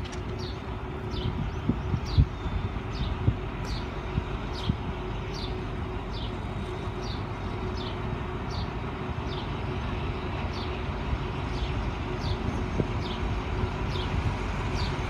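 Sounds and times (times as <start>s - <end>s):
locomotive rumbling: 0.0s - 15.0s.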